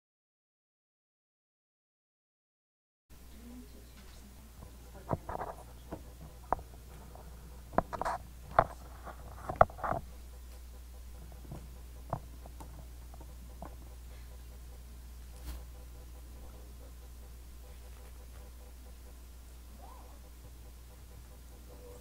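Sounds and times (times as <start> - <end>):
steady low hum: 3.1 - 22.0.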